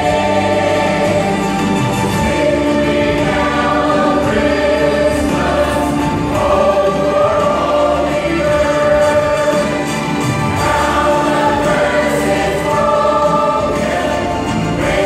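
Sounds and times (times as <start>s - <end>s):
mixed choir singing: 0.0s - 15.0s.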